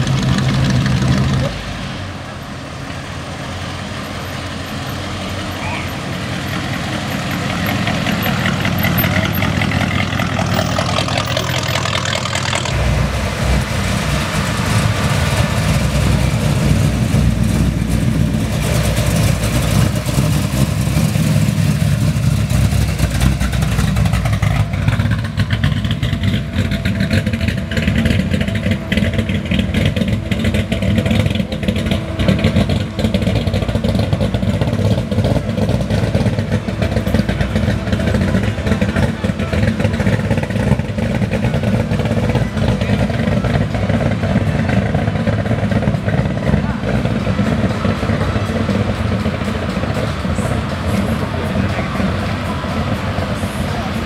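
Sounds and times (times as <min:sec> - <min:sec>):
car engine passing by: 0:00.0 - 0:54.0.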